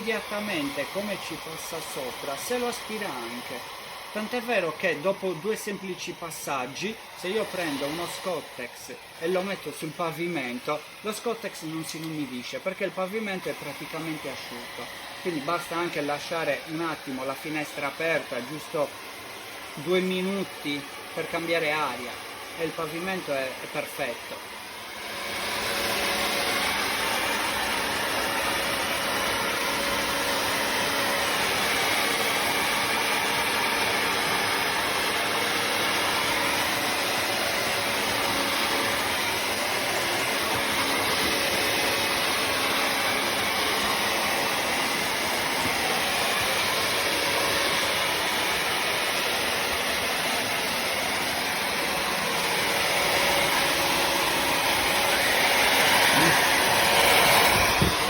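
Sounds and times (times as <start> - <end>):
floor cleaner motor drone: 0.0 - 58.0.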